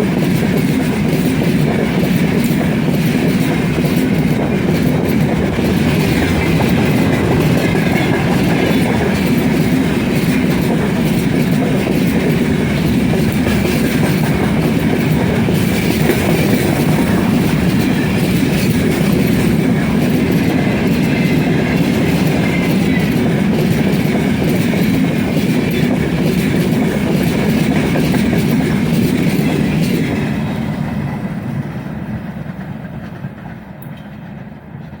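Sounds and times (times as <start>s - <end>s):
freight train rumbling past: 0.0s - 35.0s
wheels clattering over rail joints: 0.1s - 31.1s.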